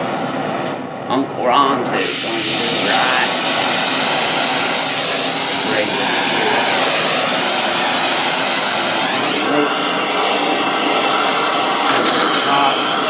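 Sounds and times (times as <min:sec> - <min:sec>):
torch burning with loud hiss: 0:02.0 - 0:13.0.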